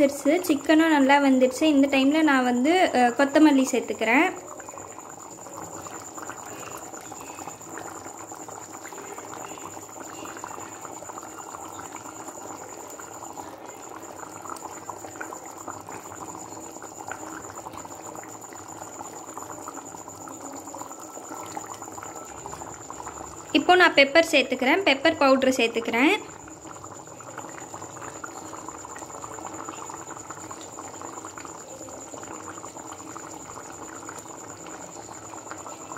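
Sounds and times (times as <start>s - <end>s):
curry bubbling and popping: 0.0s - 35.9s.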